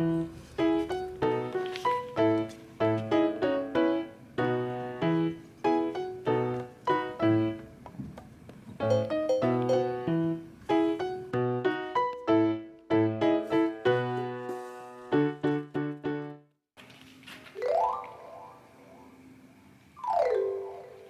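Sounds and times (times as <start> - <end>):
piano music: 0.0 - 7.8, 8.8 - 16.5, 17.6 - 19.3, 20.0 - 21.0.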